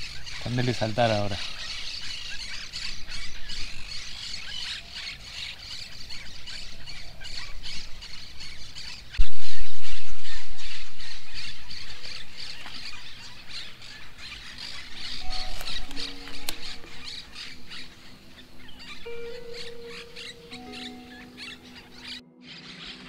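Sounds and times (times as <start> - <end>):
birds squawking: 0.0 - 23.0.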